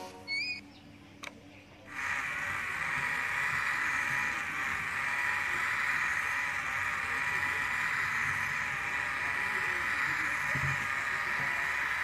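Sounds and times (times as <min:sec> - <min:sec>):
small motor gearbox whining: 0:00.3 - 0:00.7, 0:01.9 - 0:12.0
paddle wheel lifting sand: 0:01.9 - 0:12.0.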